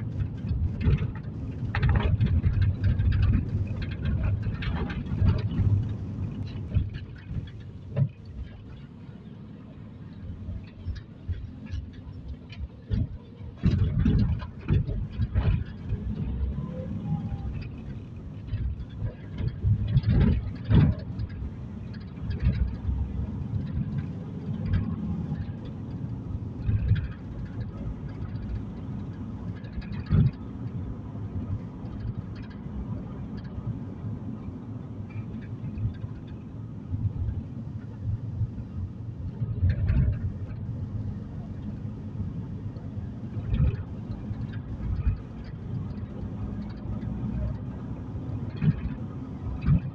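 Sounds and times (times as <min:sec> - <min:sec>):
bumps and knocks from road: 0:00.0 - 0:09.0, 0:10.4 - 0:49.9
car cabin road rumble: 0:00.0 - 0:49.9.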